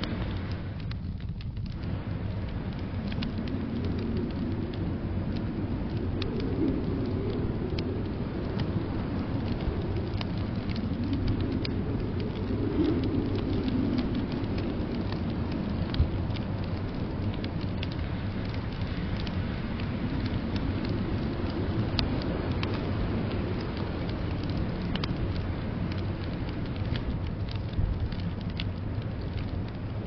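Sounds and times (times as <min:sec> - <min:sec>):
blizzard wind rushing: 0:00.0 - 0:30.0
wood fire crackling: 0:00.0 - 0:30.0.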